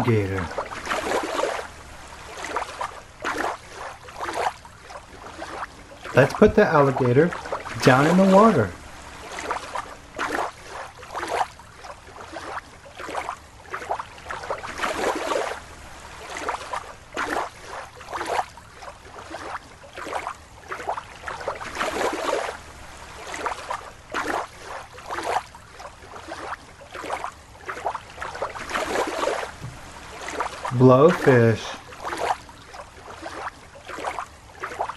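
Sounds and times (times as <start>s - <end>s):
water splashing and sloshing: 0.0s - 34.9s.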